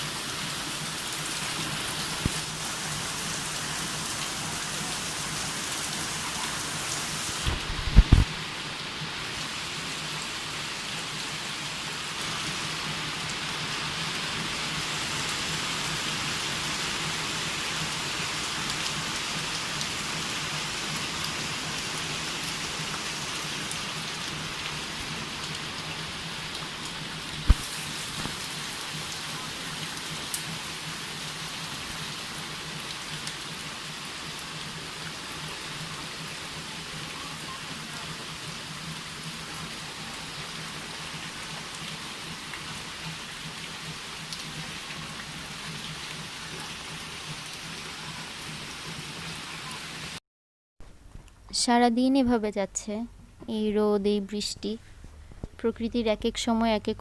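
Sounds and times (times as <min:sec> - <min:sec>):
steady rain falling: 0:00.0 - 0:50.2.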